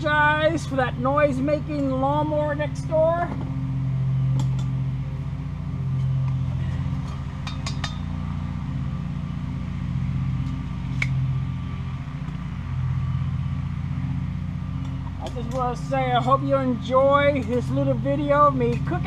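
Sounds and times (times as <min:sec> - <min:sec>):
lawnmower engine running: 0:00.0 - 0:19.0.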